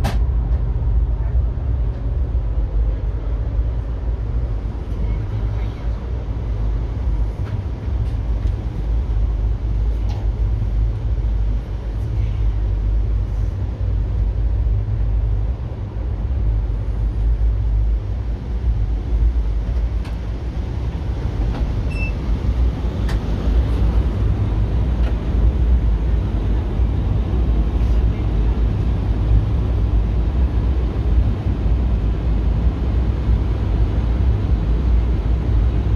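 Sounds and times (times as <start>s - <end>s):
moving train rumble: 0.0s - 35.9s.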